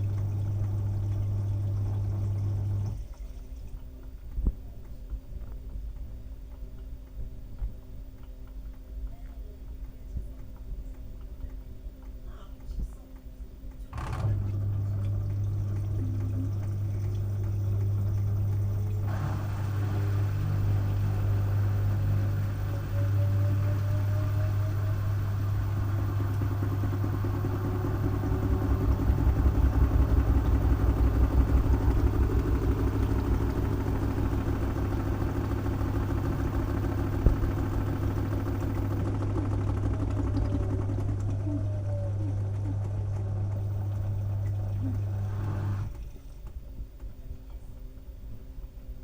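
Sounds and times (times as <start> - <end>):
washing machine running: 0.0 - 49.0.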